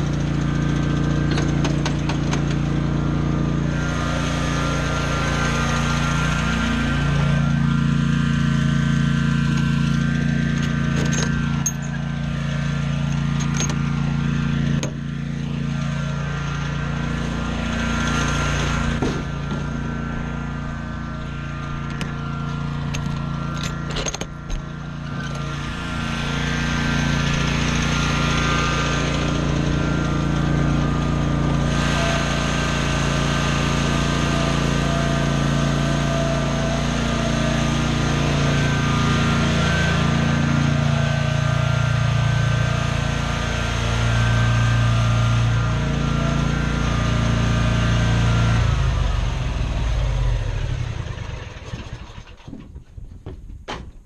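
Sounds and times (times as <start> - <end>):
small gasoline engine running: 0.0 - 53.2.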